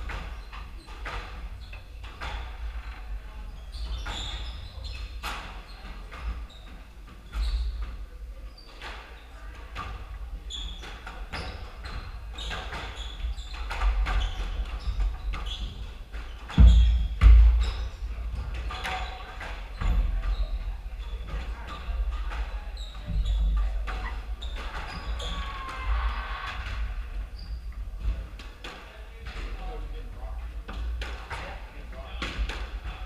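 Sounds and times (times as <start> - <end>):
sneakers squeaking on wooden floor: 0.0 - 29.9.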